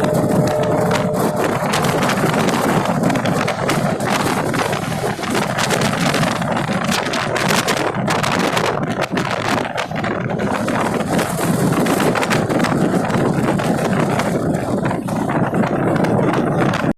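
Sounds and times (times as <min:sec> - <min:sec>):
rattling and clicking: 0:00.0 - 0:16.9
train rumbling: 0:00.0 - 0:16.9
wind buffeting microphone: 0:00.0 - 0:16.9.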